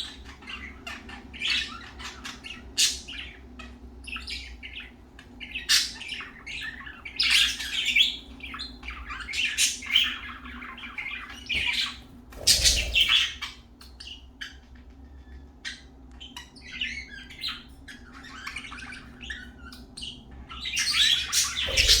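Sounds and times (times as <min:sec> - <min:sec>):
budgerigars chirping and squawking: 0:00.0 - 0:22.0.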